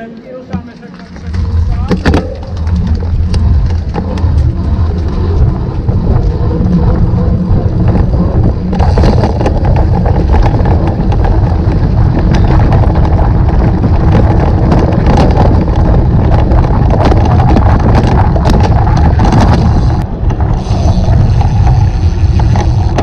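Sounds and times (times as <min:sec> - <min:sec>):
bike rumbling over rough trail: 0:00.0 - 0:23.0
bike rattling over bumps: 0:00.5 - 0:23.0
wind buffeting microphone: 0:01.2 - 0:23.0.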